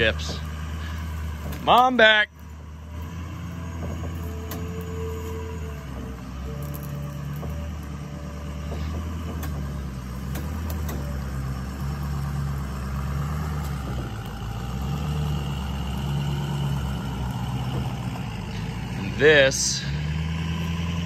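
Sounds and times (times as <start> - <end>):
pickup truck engine rumbling: 0.0 - 21.0.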